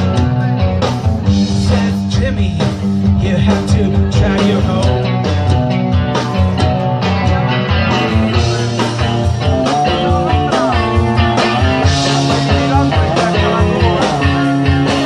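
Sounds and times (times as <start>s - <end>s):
rock band playing live: 0.0s - 15.0s
steady low beat: 0.0s - 15.0s.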